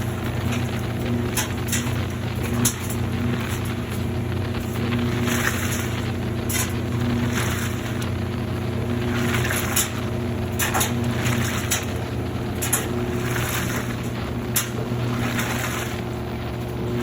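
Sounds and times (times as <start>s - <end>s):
washing machine motor hum: 0.0s - 17.0s
water and laundry sloshing: 0.0s - 17.0s.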